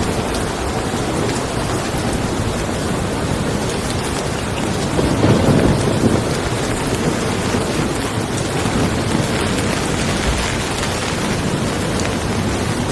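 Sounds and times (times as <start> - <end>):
steady rain: 0.0 - 12.9
thunder rumble: 0.0 - 12.9.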